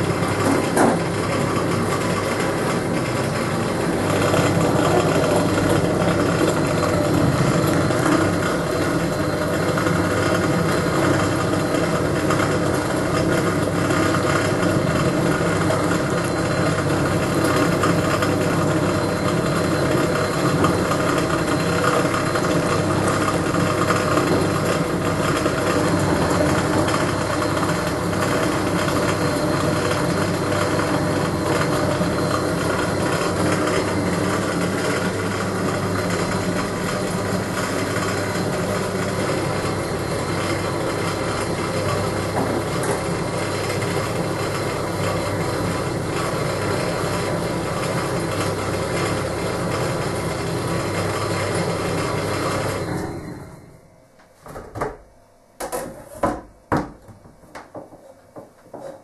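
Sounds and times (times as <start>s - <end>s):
pulsator churning laundry water: 0.0s - 53.6s
washing machine motor humming: 0.0s - 59.0s.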